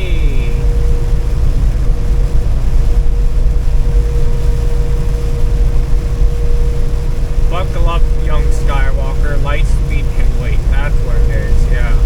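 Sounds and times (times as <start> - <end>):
faint constant whine: 0.0 - 12.0
truck engine and road drone: 0.0 - 12.0.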